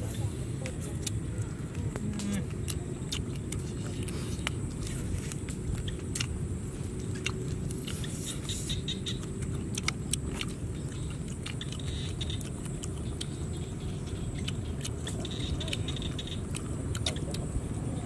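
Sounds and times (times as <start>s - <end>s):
steady low rumble: 0.0s - 18.0s
crunching and chewing bones: 0.8s - 17.8s.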